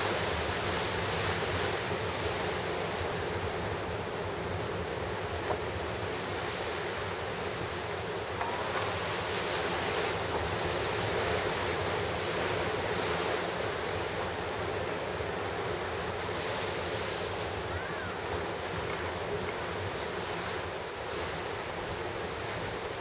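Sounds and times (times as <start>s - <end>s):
ocean surf washing ashore: 0.0s - 23.0s.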